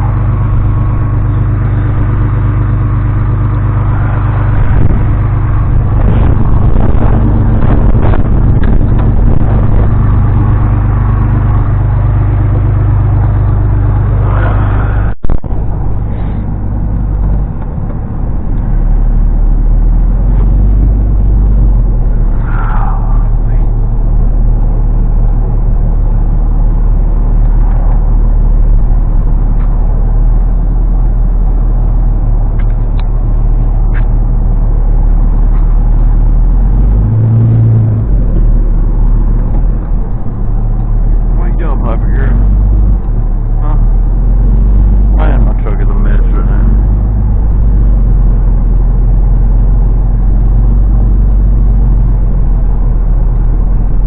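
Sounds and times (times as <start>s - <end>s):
motor engine running: 0.0s - 54.0s.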